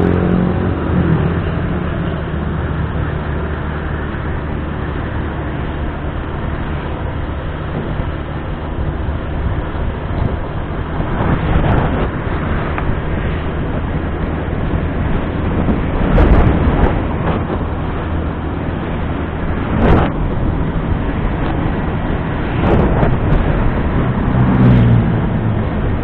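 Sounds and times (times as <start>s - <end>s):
passing traffic: 0.0s - 26.0s
scooter engine drone: 0.0s - 26.0s
wind rush: 0.0s - 26.0s.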